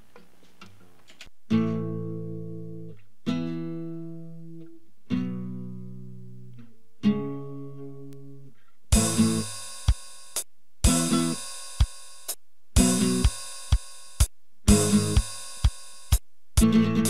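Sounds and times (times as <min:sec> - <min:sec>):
acoustic guitar strumming: 0:01.5 - 0:12.2, 0:12.8 - 0:17.0.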